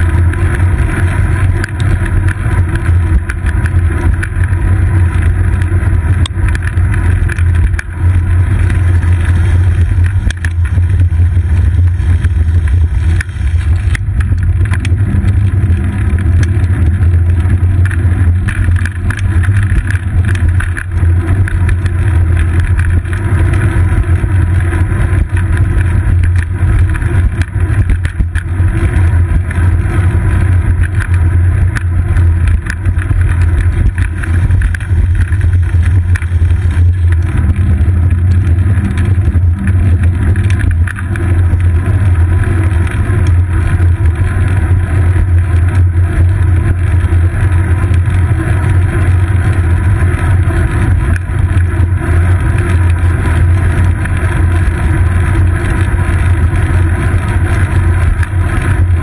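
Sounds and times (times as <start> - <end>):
bicycle rolling over asphalt: 0.0 - 59.0
wind rumble: 0.0 - 59.0.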